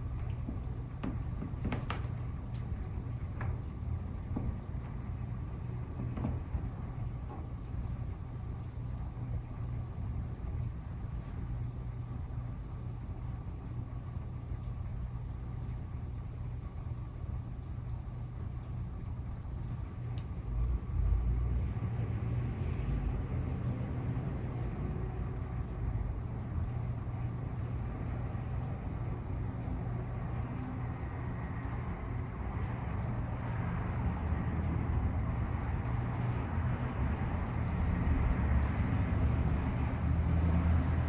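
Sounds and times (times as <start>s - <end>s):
motor vehicle rumble: 0.0s - 12.6s, 18.6s - 41.0s.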